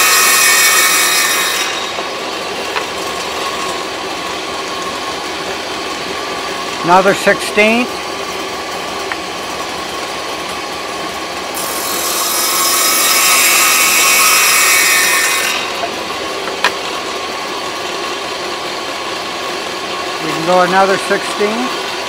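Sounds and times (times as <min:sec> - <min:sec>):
saw cutting wood: 0:00.0 - 0:22.0
table saw running: 0:00.0 - 0:22.0.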